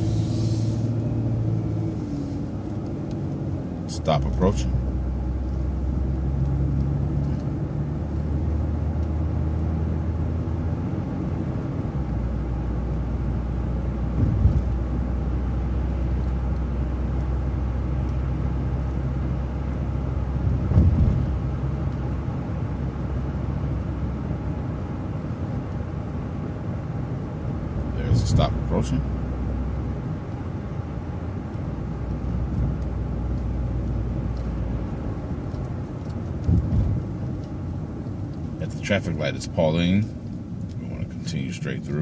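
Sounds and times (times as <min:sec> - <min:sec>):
bus engine droning: 0:00.0 - 0:42.0.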